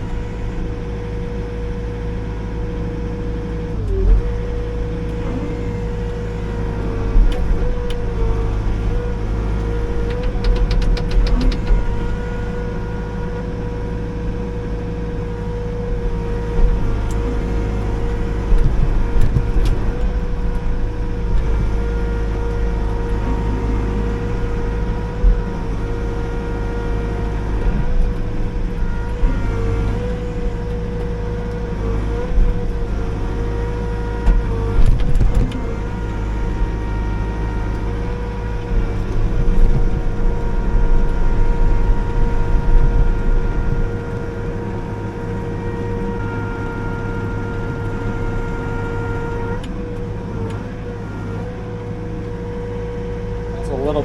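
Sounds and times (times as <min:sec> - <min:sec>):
excavator diesel engine with whine: 0:00.0 - 0:54.0.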